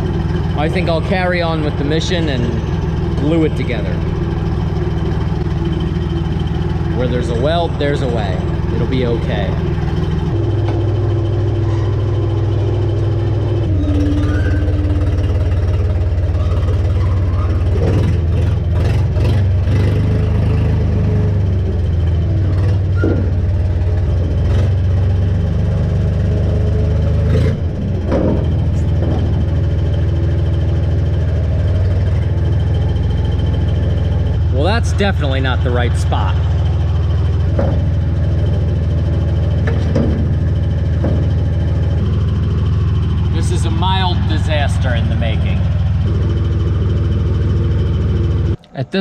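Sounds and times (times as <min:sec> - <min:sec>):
engine running steadily: 0:00.0 - 0:49.0
metal clanks and knocks: 0:00.1 - 0:19.5, 0:21.0 - 0:48.6.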